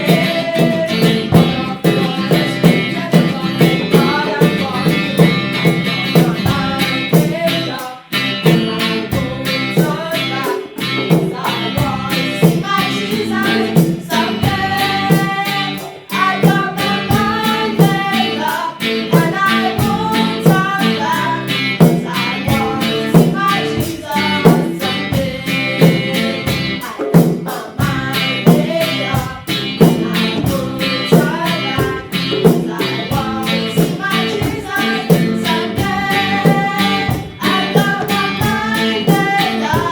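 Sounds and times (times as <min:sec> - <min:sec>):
guitar: 0:00.0 - 0:39.9
voices singing: 0:00.0 - 0:39.9.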